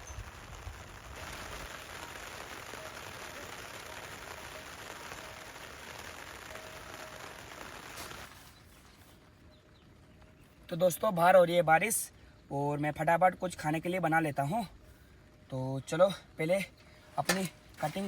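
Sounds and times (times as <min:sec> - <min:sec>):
light rain on a tent: 0:00.0 - 0:18.0.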